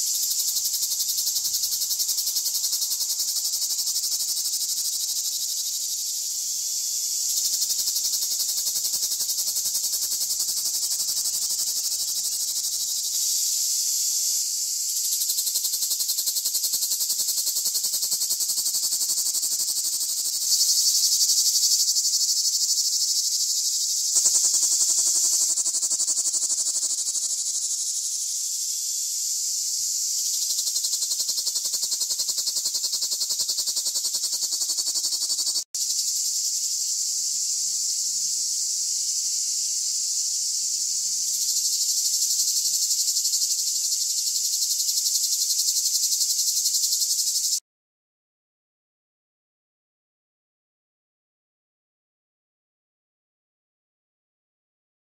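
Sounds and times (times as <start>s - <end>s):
cicada buzzing: 0.0s - 47.6s.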